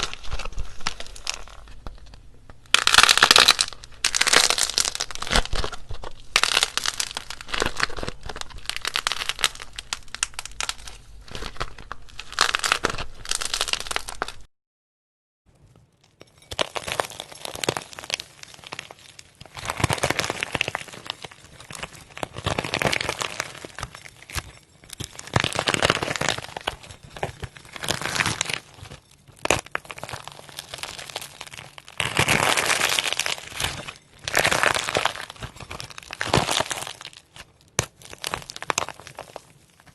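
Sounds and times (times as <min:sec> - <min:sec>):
clay cracking and crinkling: 0:00.0 - 0:14.5, 0:15.5 - 0:39.9.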